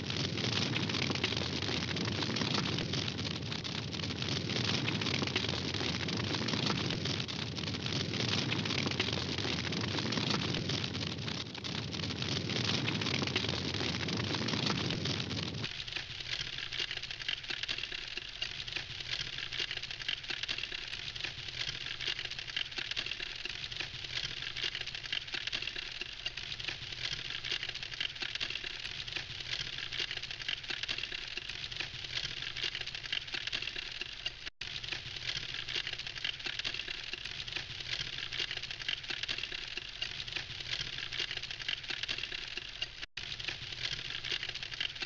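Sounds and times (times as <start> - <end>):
campfire crackling: 0.0 - 45.0
rushing of flames: 0.0 - 45.0.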